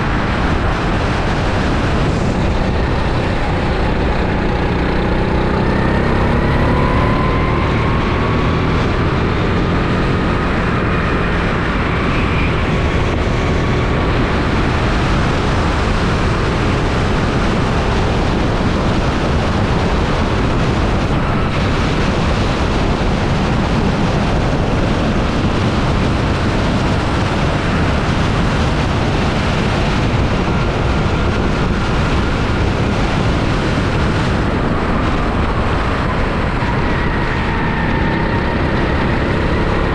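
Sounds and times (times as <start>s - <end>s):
kart engine accelerating: 0.0s - 39.9s
road noise: 0.0s - 39.9s
wind noise: 0.0s - 39.9s.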